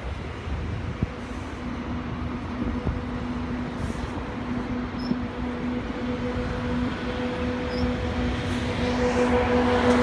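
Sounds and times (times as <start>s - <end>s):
constant hum: 0.0s - 10.0s
train wheels rumbling on rail: 0.0s - 10.0s.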